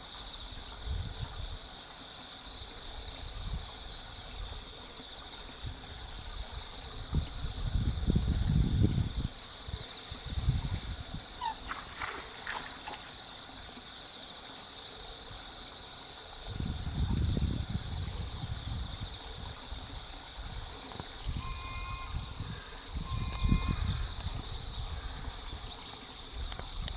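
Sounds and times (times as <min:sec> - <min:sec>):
insect chorus trilling: 0:00.0 - 0:26.9.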